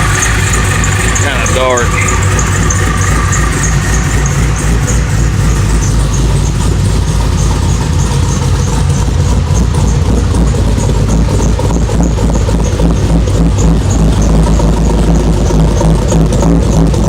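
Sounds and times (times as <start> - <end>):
car engine idling: 0.0 - 17.0
faint high ticking: 0.0 - 17.0.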